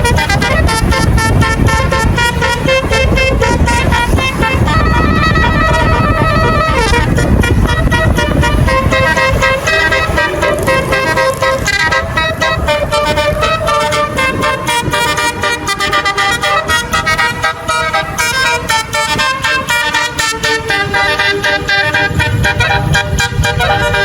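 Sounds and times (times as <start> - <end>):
engine rumble: 0.0 - 24.0
musical bus horn tune: 0.0 - 24.0.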